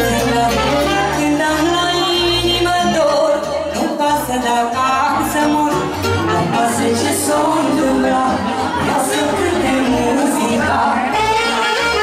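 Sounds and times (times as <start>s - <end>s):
woman singing: 0.0s - 11.3s
live band music: 0.0s - 12.0s.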